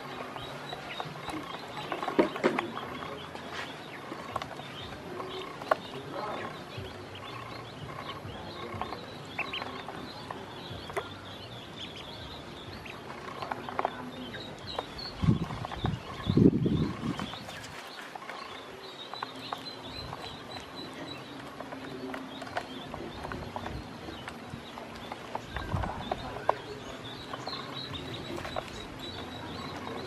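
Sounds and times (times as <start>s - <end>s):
ducklings peeping: 0.0s - 30.0s.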